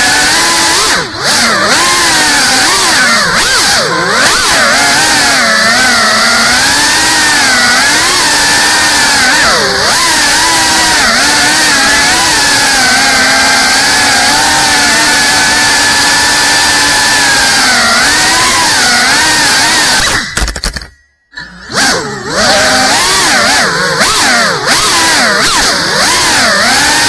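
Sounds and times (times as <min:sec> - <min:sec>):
drone motors and propellers buzzing: 0:00.0 - 0:27.0.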